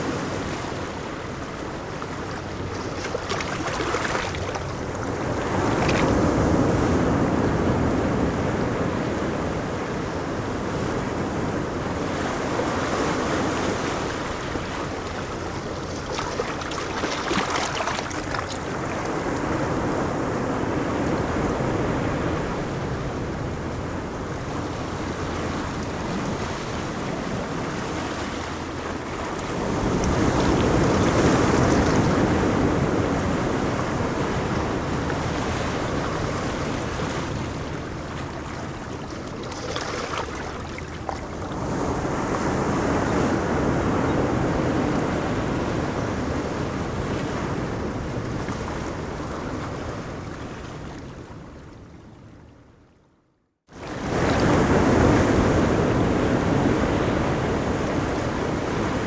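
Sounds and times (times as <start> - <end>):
wind on microphone: 0.0 - 51.6, 53.8 - 59.0
ocean surf on beach: 0.0 - 51.8, 53.7 - 59.0.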